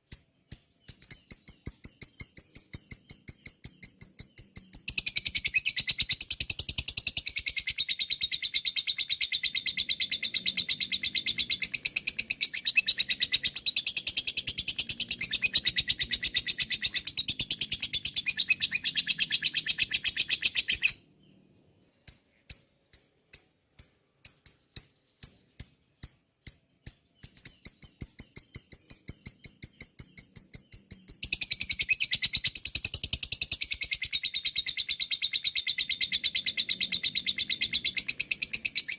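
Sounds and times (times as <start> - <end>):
bird chattering chirps: 0.0 - 21.4, 24.2 - 38.9
sharp bird chirps: 0.0 - 38.9.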